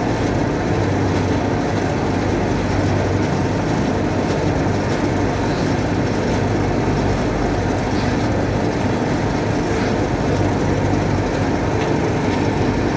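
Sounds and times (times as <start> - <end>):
factory machinery drone: 0.0 - 12.9.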